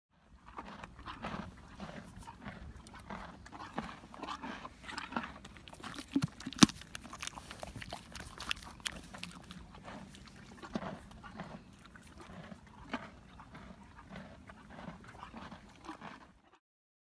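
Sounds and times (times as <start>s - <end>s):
horse sniffing: 0.5s - 16.3s.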